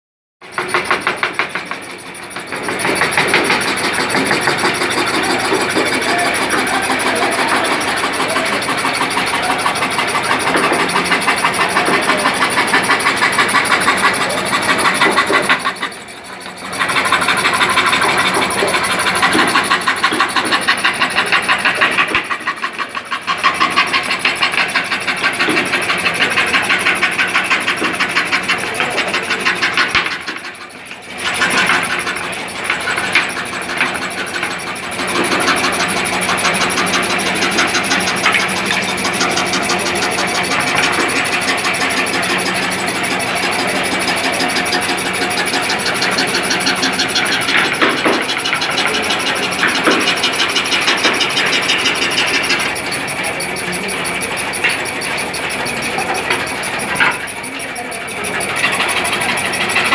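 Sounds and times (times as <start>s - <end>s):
scroll saw cutting wood: 0.4s - 59.9s.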